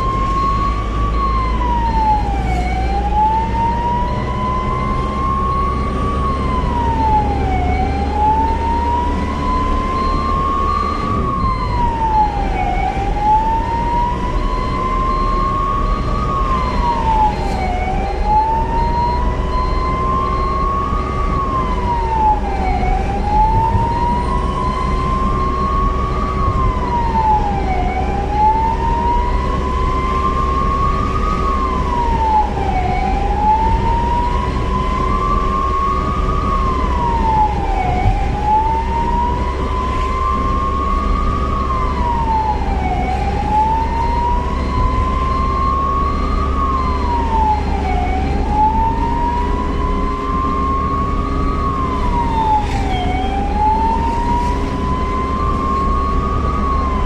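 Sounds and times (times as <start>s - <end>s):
ambulance siren wailing: 0.0s - 57.0s
vehicle rumble: 0.0s - 57.0s.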